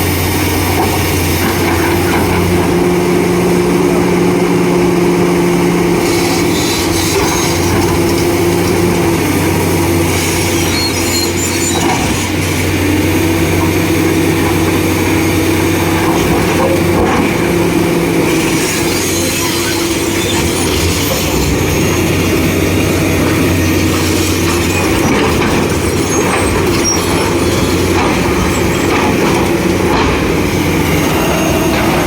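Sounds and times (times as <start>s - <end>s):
excavator diesel engines droning: 0.0s - 32.0s.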